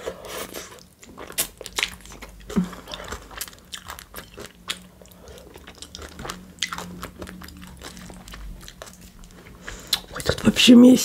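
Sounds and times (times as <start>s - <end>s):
person chewing food: 0.0s - 10.6s.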